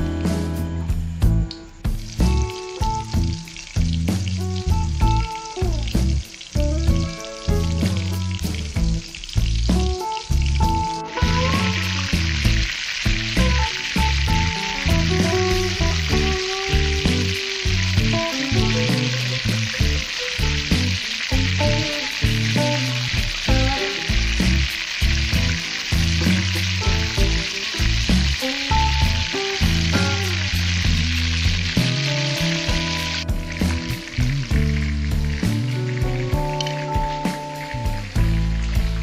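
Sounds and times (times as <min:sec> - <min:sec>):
background music with a beat: 0:00.0 - 0:39.0
chicken deep-frying in oil: 0:01.3 - 0:39.0.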